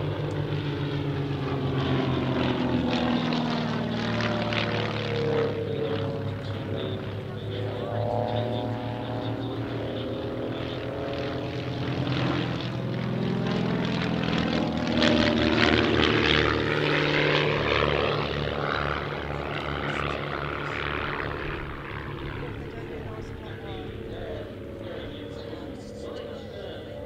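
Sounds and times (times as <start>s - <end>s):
propeller aircraft engines droning: 0.0s - 27.0s.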